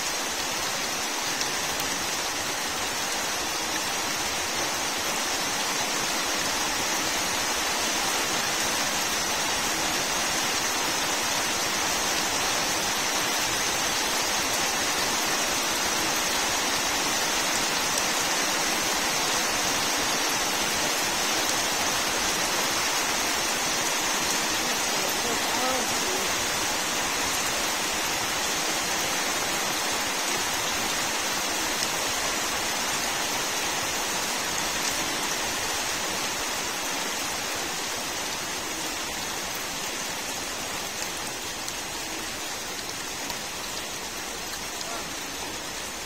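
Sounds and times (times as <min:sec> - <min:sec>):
rain falling on leaves: 0:00.0 - 0:46.0.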